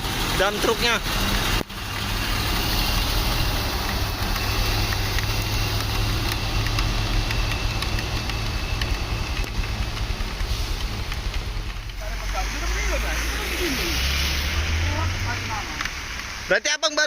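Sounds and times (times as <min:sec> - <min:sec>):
diesel truck engine idling: 0:00.0 - 0:16.7
heavy rain hissing: 0:00.0 - 0:17.0.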